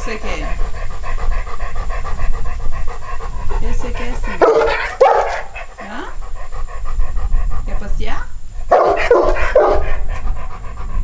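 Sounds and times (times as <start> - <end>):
dog calls: 0.0 - 11.0
dog panting: 0.0 - 11.0.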